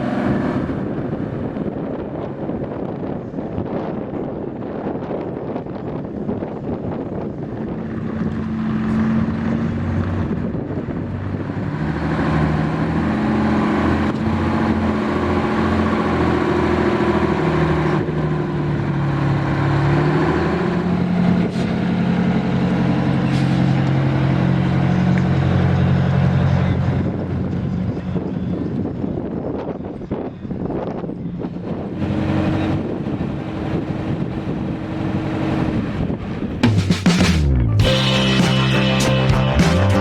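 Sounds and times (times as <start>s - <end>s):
heavy truck engines running: 0.0s - 40.0s.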